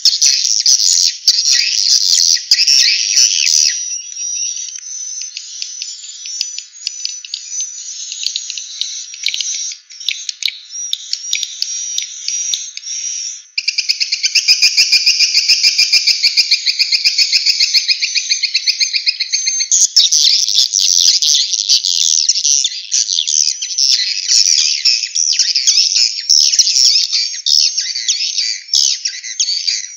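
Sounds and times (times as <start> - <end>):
swiftlet chirping and twittering: 0.0 - 29.9.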